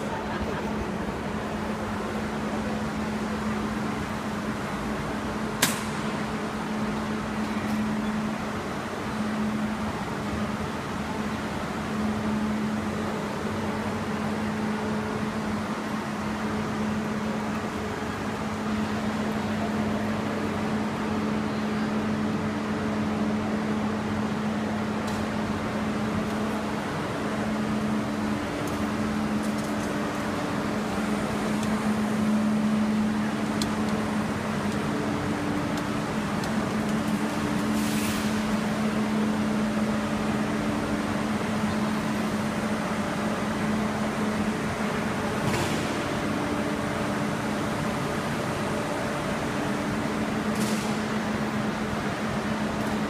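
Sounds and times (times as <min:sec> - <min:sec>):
background hubbub: 0:00.0 - 0:53.0
steady mechanical hum: 0:00.0 - 0:53.0.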